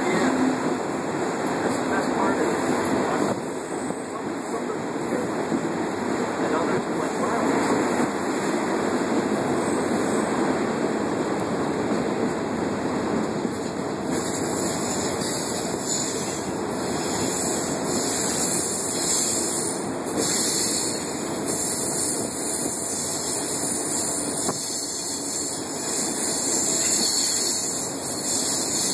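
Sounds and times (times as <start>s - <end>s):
air rushing past train: 0.0s - 28.9s
train wheels rumbling on rails: 0.0s - 28.9s.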